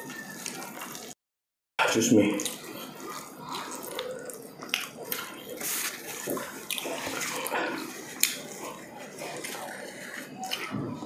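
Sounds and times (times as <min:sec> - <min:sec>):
wet chewing and lip smacks: 0:00.0 - 0:01.2, 0:02.3 - 0:10.8.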